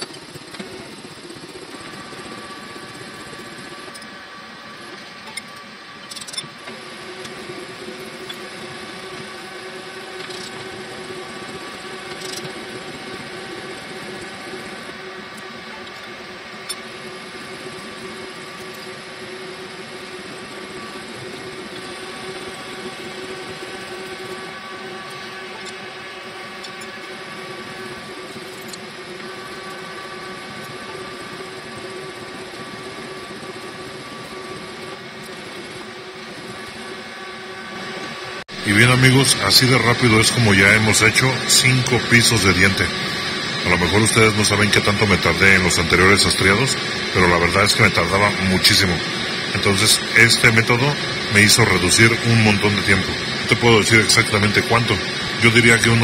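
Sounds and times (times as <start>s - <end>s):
slotting machine hum: 0.0s - 56.0s.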